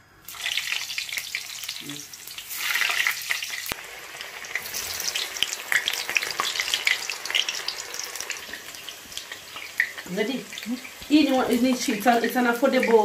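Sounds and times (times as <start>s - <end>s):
vegetables deep-frying in oil: 0.2s - 13.0s.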